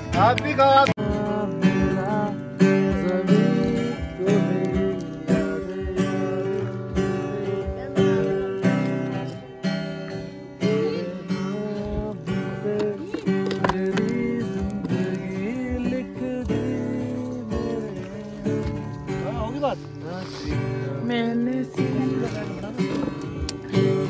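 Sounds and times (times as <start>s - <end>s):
person singing: 0.0s - 9.4s, 10.6s - 19.2s, 20.1s - 24.0s
acoustic guitar strumming chords: 0.0s - 24.0s.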